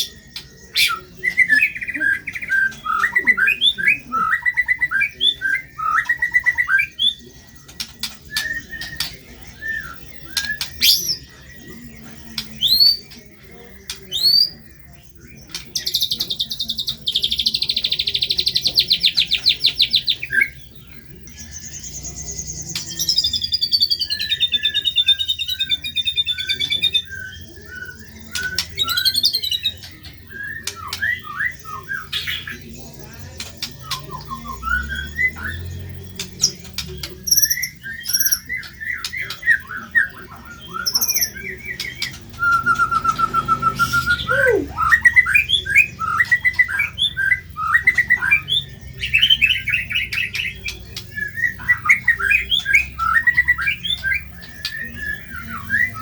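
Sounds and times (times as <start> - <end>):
bird singing whistles and trills: 0.0 - 56.0.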